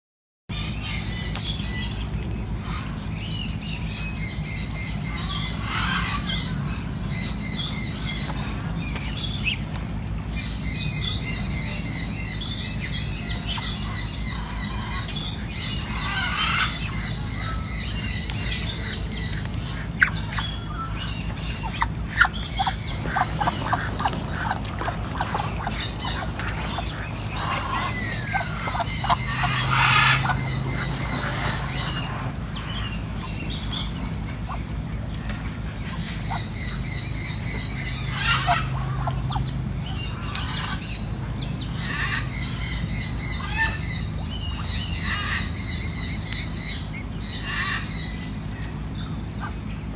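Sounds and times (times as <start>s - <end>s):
birds squawking and chirping: 0.5s - 49.9s
steady low hum: 0.5s - 49.9s.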